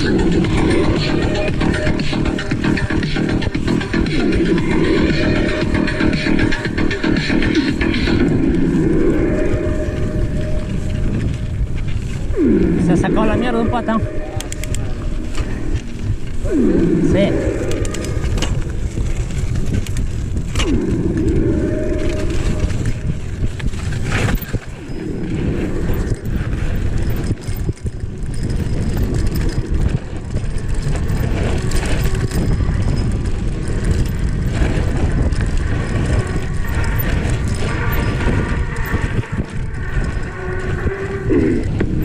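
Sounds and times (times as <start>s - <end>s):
bike tyres and frame rattling: 0.0s - 42.0s.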